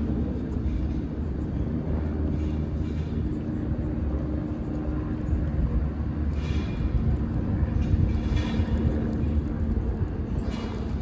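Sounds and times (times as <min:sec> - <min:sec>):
distant traffic rumble: 0:00.0 - 0:11.0.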